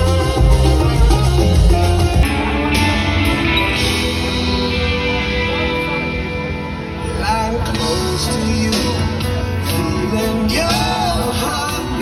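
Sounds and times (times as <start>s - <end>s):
guitar music with heavy bass beat: 0.0s - 12.0s.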